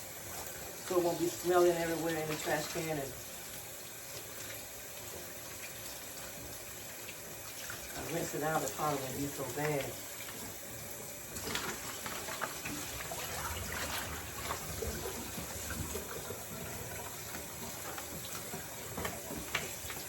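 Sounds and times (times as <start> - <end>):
faucet running: 0.0 - 20.0.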